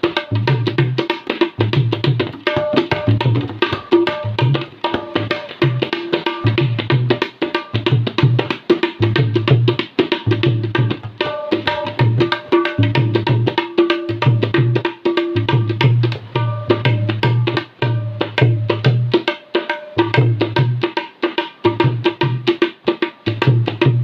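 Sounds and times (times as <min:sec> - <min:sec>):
tabla playing driving rhythm: 0:00.0 - 0:24.0.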